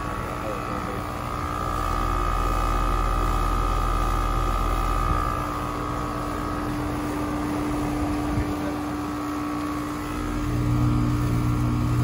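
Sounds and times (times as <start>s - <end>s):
heat pump fan running: 0.0s - 12.0s
low hum: 0.0s - 12.0s
steady whine: 0.0s - 12.0s.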